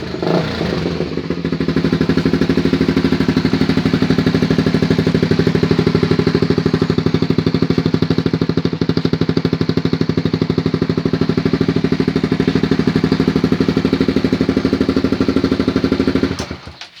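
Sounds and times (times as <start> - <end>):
motorcycle idling: 0.0 - 16.9.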